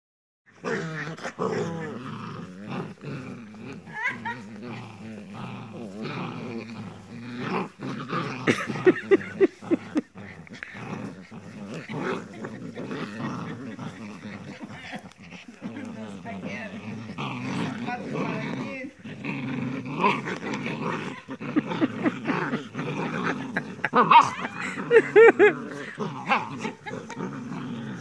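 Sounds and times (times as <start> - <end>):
puppies growling in play: 0.5 - 28.0.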